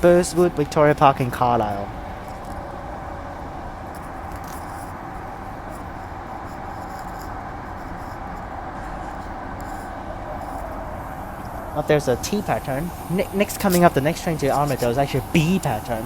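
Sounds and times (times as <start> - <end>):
faint steady tone: 0.0 - 16.0
train interior rumble: 0.0 - 16.0.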